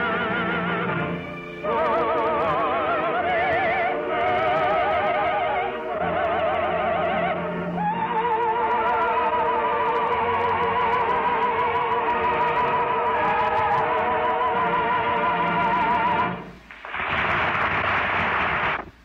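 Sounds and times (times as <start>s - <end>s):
orchestral music with held notes: 0.0s - 16.5s.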